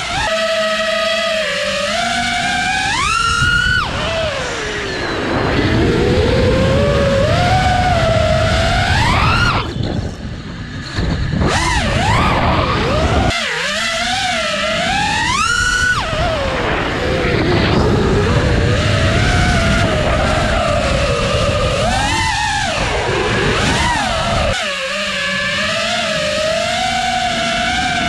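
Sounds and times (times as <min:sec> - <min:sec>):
quadcopter motors whining: 0:00.0 - 0:28.0
wind rumbling on microphone: 0:01.9 - 0:28.0.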